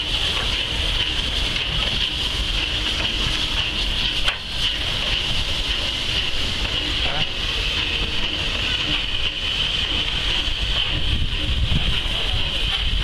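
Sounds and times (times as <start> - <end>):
locomotive rumble: 0.0 - 13.0
steam hissing: 0.0 - 13.0.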